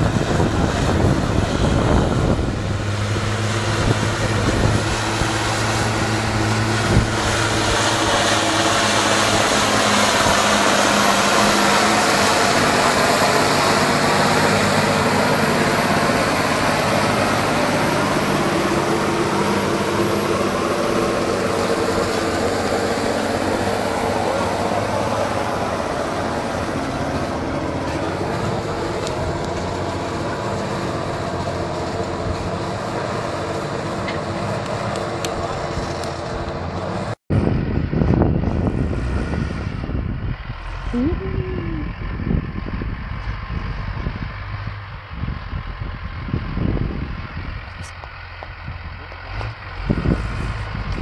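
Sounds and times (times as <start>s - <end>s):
rushing noise of plough in soil: 0.0s - 51.0s
tractor diesel engine under load: 0.0s - 51.0s.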